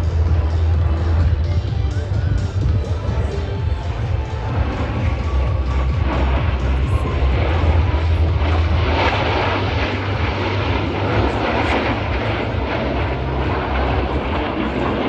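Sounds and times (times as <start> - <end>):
plane engine and propeller droning: 0.0 - 15.0.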